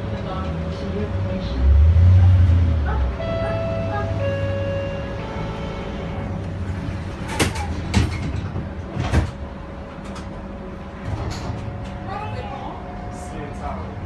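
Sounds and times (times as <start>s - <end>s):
streetcar rumble: 0.0s - 14.0s.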